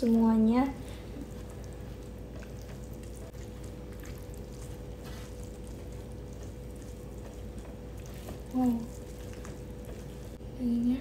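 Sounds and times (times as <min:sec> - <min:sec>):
wet squishing of hand mixing rice: 0:00.0 - 0:10.8
steady low hum: 0:00.0 - 0:11.0.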